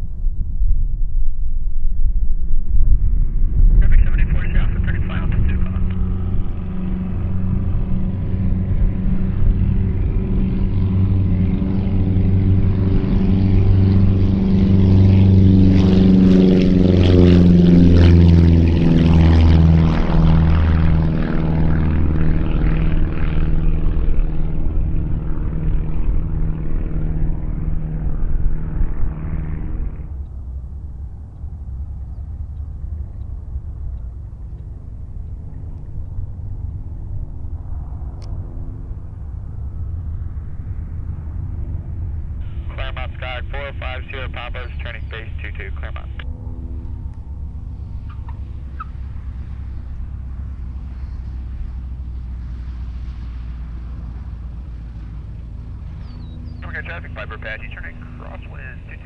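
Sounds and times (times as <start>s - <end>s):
propeller airplane passing: 0.0s - 59.0s.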